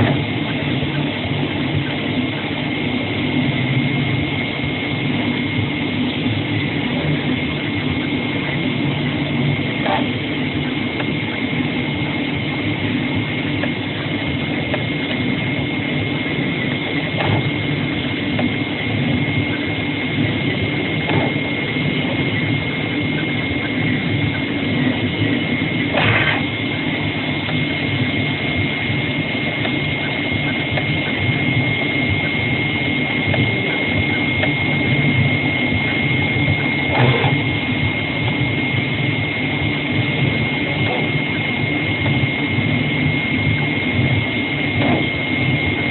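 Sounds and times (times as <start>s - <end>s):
cutting machine hum: 0.0s - 45.9s
high machine whine: 0.0s - 45.9s.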